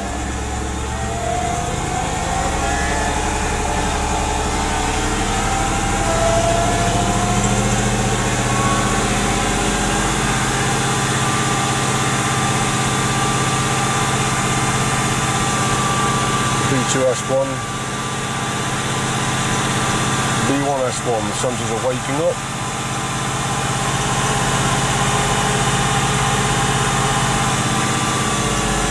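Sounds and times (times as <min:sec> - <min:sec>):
car engine running above idle: 0:00.0 - 0:28.9.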